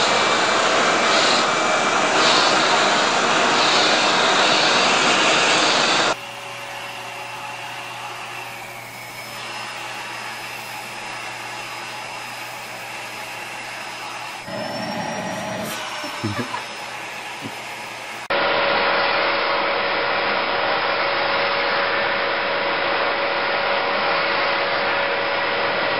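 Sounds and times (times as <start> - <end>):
quieter vacuum with high whine: 0.0 - 25.9
vacuum cleaner running: 0.0 - 25.9.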